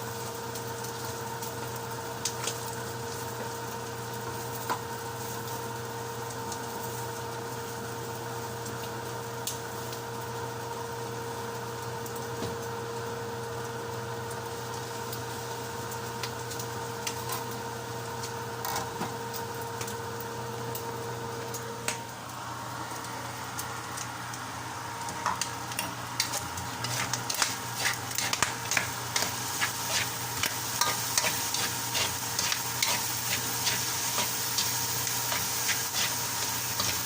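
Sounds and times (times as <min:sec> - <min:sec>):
steady machine hum: 0:00.0 - 0:37.0.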